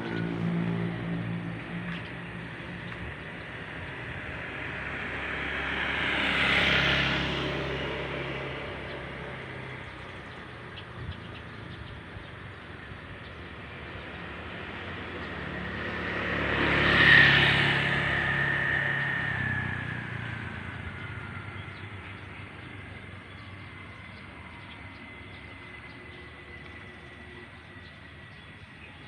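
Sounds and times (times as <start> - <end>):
vehicles passing by: 0.0 - 29.0.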